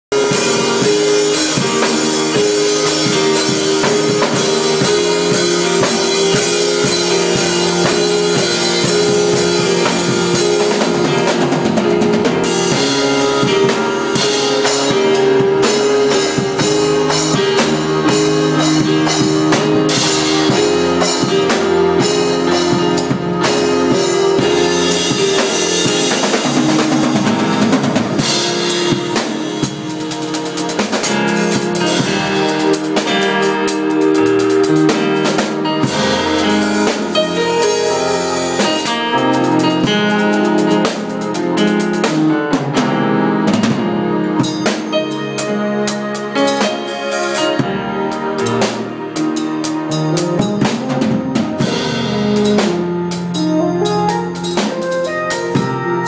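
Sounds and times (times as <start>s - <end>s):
drum kit playing: 0.0s - 56.0s.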